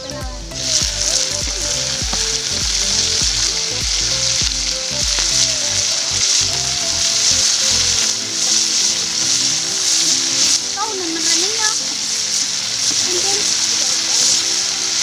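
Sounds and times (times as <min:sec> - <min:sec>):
background music with beat: 0:00.0 - 0:15.0
food sizzling in hot oil: 0:00.0 - 0:15.0.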